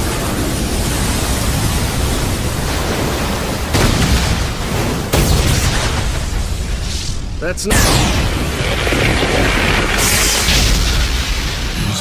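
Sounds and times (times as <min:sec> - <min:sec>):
steady rushing roar: 0:00.0 - 0:12.0
sudden blasts: 0:00.0 - 0:12.0.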